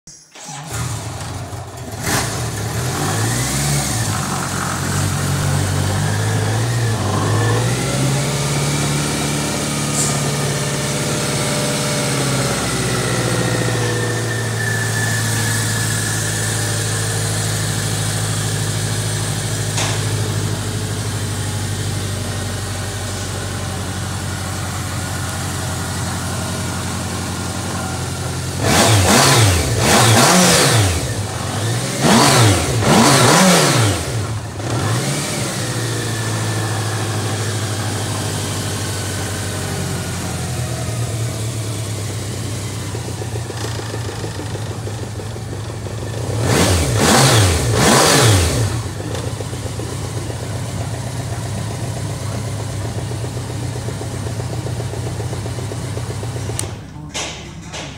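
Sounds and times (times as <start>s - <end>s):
motorcycle engine idling and revving: 0.4s - 57.9s.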